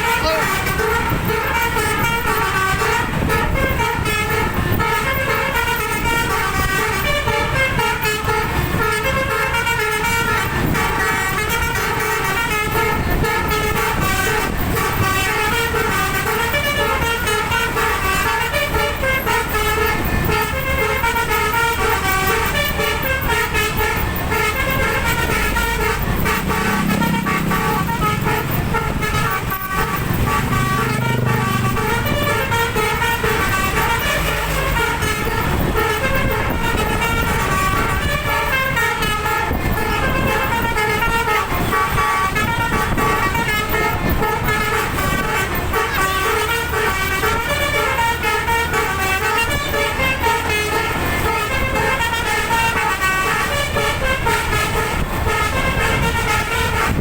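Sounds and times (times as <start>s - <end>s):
low steady horn tone: 0.0s - 57.0s
musical air horns: 0.0s - 57.0s
road and engine rumble: 0.0s - 57.0s.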